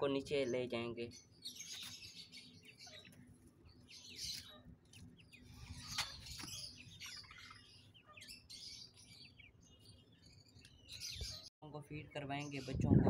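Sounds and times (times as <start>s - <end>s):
young birds chirping: 0.0s - 11.5s, 12.2s - 13.0s.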